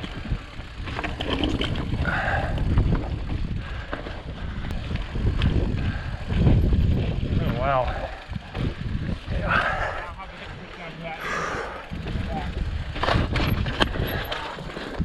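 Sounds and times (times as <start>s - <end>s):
wind on microphone: 0.0s - 10.0s, 11.4s - 15.0s
bike rattles and knocks: 0.0s - 15.0s
bike tyre noise on rock: 0.0s - 15.0s.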